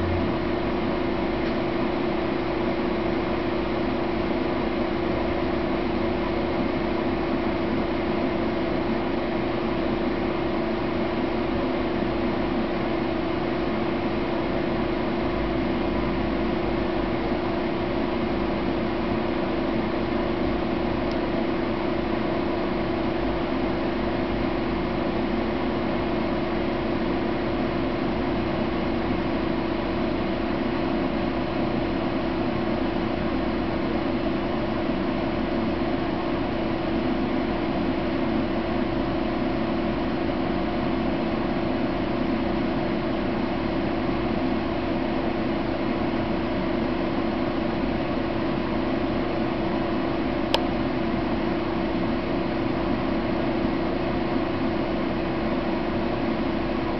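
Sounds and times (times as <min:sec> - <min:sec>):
machine hum with hiss: 0:00.0 - 0:56.9.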